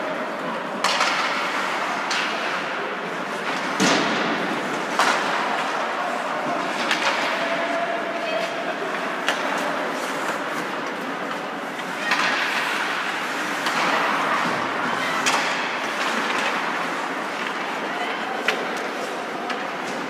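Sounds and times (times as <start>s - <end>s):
ice rink noise: 0.0s - 20.0s
hockey sticks knocking puck: 0.6s - 7.8s, 8.4s - 20.0s.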